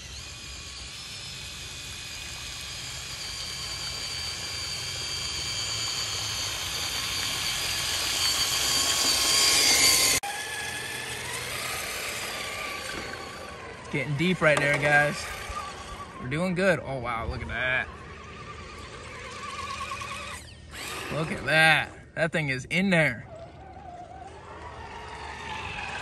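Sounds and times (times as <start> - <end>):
rc truck motor whine: 0.0 - 22.2, 22.8 - 26.0.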